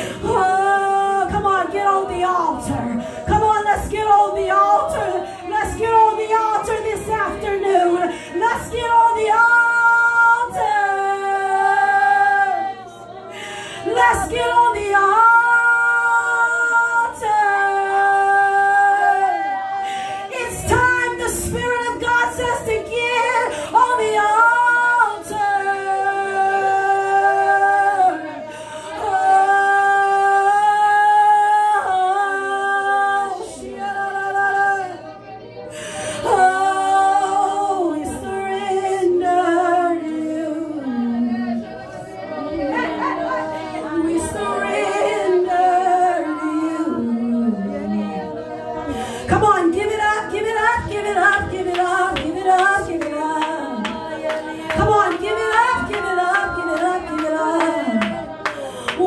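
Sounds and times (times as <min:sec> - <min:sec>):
woman singing: 0:00.0 - 0:59.0.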